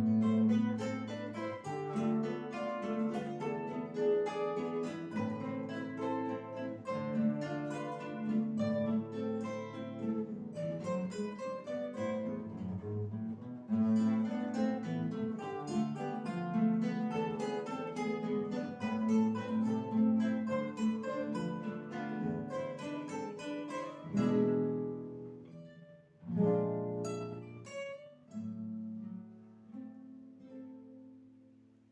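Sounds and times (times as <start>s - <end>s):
acoustic guitar ensemble playing: 0.0s - 31.9s.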